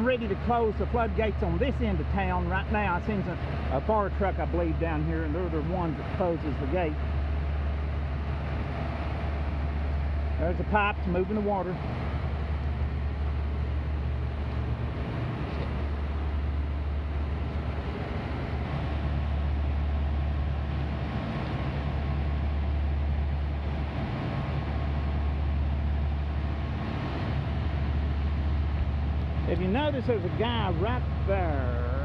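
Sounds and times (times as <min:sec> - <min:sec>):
constant wash of noise: 0:00.0 - 0:32.0
pumps droning: 0:00.0 - 0:32.0.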